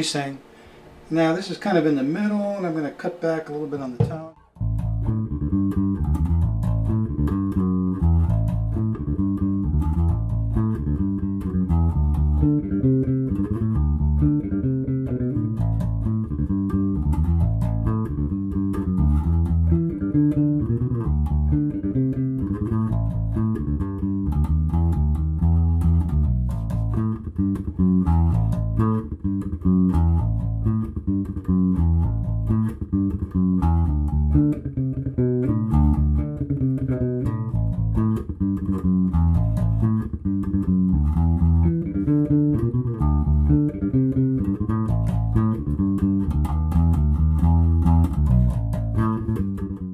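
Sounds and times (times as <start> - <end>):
electric bass riff: 4.0 - 49.9.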